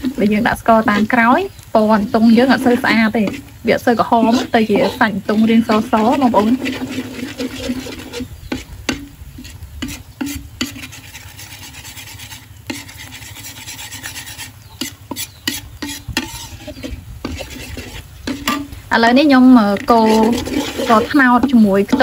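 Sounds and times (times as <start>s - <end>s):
light sizzle in hot oil: 0.0s - 22.0s
metal spatula scraping a wok: 2.2s - 22.0s.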